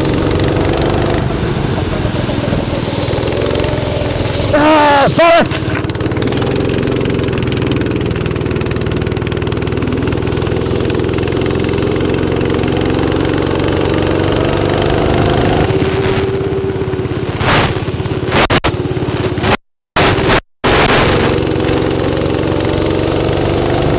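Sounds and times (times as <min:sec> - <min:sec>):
go-kart engines droning: 0:00.0 - 0:19.5, 0:20.7 - 0:23.9.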